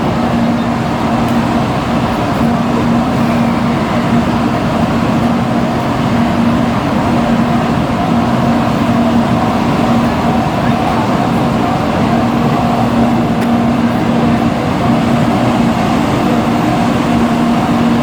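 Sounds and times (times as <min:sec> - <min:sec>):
loud vehicle noise: 0:00.0 - 0:18.0.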